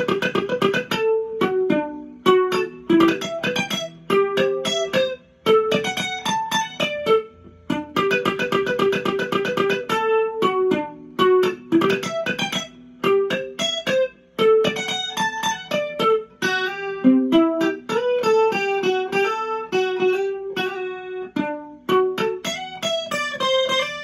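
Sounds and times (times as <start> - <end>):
acoustic guitar plucked melody: 0.0 - 24.0.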